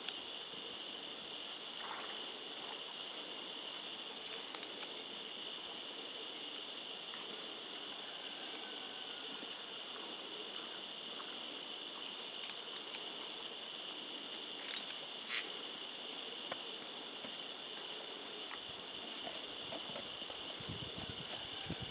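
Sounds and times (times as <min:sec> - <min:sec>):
crickets chirping: 0:00.0 - 0:21.9.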